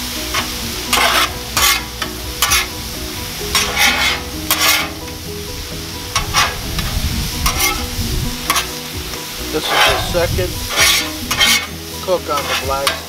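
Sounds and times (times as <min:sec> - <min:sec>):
food sizzling: 0:00.0 - 0:13.0
metal spatula scraping griddle: 0:00.1 - 0:13.0.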